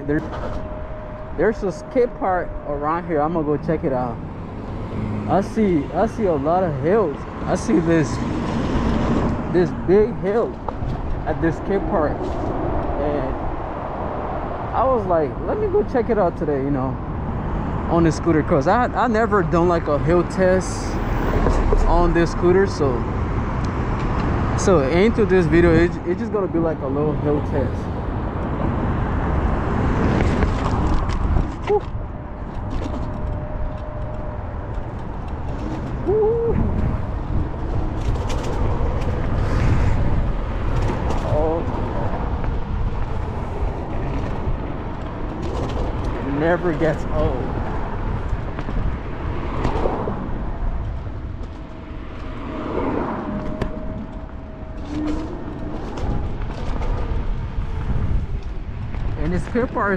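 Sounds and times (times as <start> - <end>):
road rumble: 0.0 - 59.9
wind rushing over microphone: 0.0 - 59.9.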